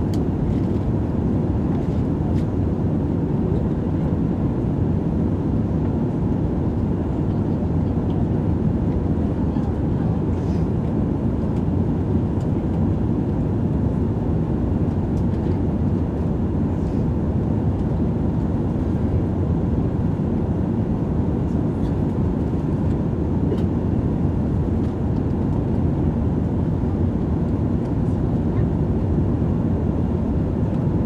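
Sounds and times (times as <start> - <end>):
jet engine cabin rumble: 0.0 - 31.0.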